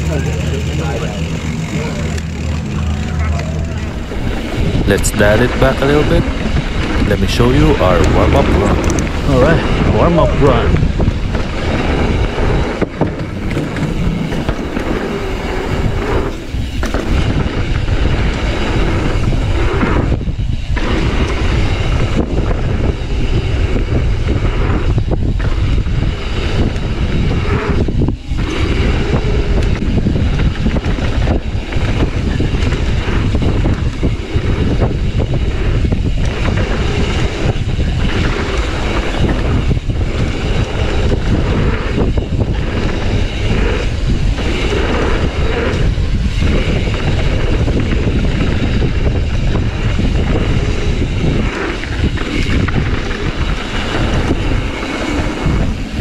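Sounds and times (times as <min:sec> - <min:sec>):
bike tyres rumbling on rough ground: 0:00.0 - 0:56.0.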